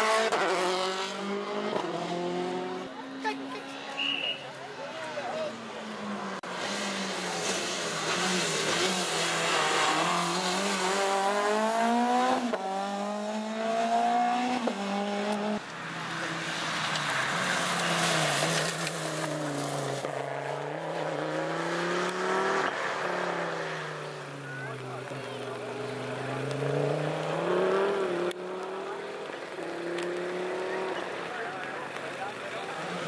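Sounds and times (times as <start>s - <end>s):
rally car engine accelerating: 0.0s - 4.0s, 5.5s - 33.0s
tyres rushing on wet tarmac: 0.2s - 33.0s.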